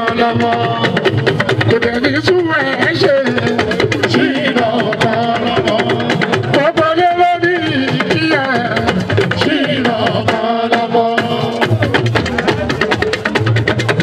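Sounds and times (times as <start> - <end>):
person singing: 0.0 - 11.9
hand drums and percussion: 0.0 - 14.0.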